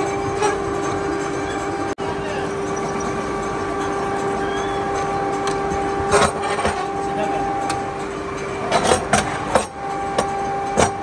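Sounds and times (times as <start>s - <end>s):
machine motor humming: 0.0s - 11.0s.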